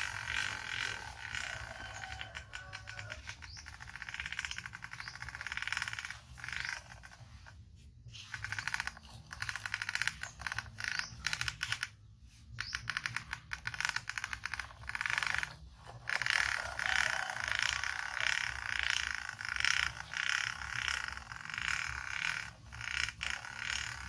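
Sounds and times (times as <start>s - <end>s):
plastic toy truck rattling: 0.0s - 24.0s.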